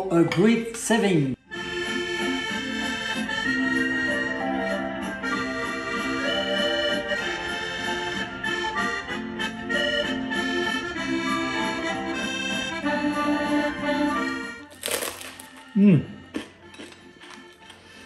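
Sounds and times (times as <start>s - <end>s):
accordion music: 1.4s - 18.0s.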